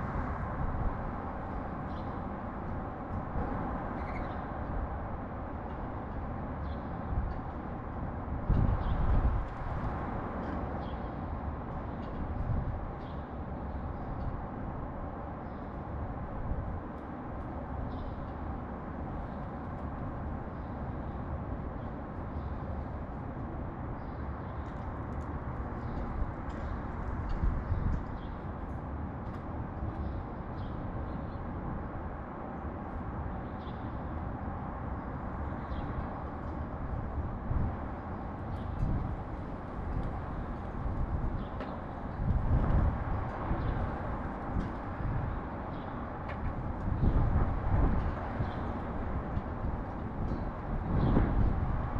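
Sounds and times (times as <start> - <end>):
low rumble of city traffic: 0.0 - 51.9.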